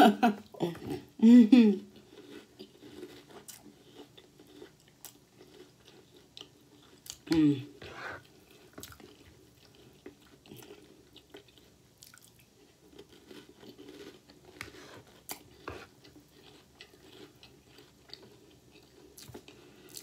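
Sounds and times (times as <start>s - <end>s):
chewing cereal: 1.9s - 20.0s.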